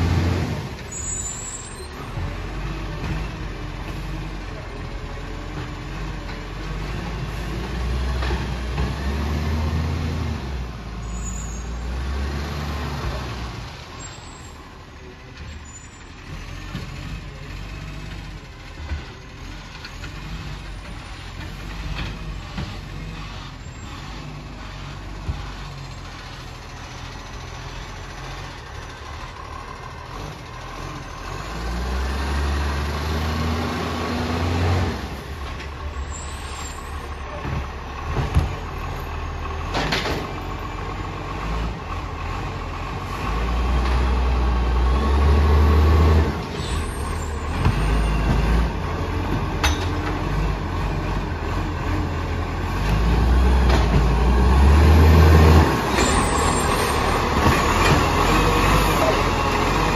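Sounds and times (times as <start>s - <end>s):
diesel truck engine revving: 0.0s - 59.9s.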